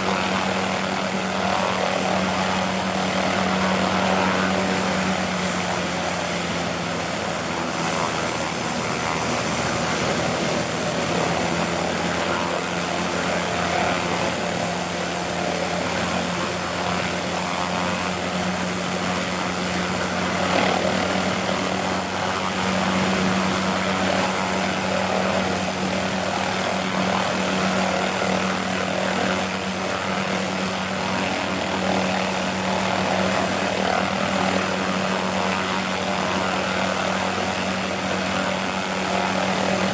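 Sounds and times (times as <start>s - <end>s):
helicopter rotor: 0.0s - 39.9s
turbine engine whine: 0.0s - 39.9s.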